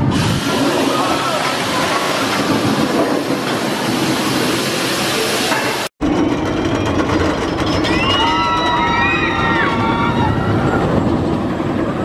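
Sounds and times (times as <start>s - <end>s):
roller coaster wheels roaring on rail: 0.0s - 12.0s.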